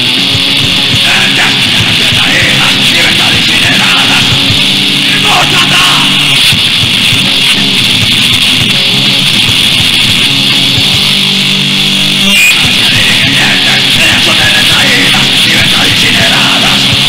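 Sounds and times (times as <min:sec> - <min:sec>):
metal music: 0:00.0 - 0:17.0.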